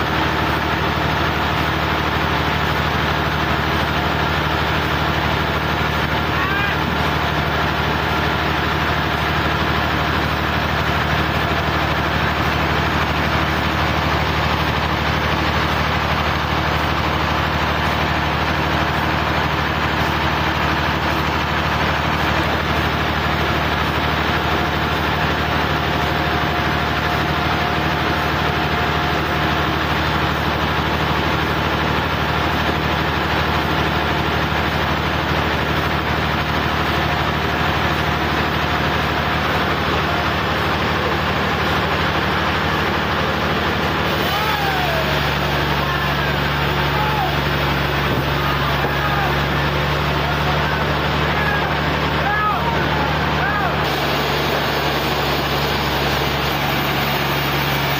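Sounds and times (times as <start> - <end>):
sawmill engine humming: 0.0 - 57.9.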